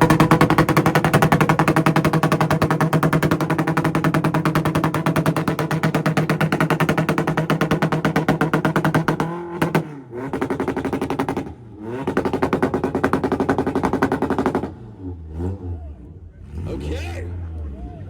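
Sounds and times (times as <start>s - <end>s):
exhaust pops: 0.0s - 15.0s
car engine on launch limiter: 0.0s - 18.0s.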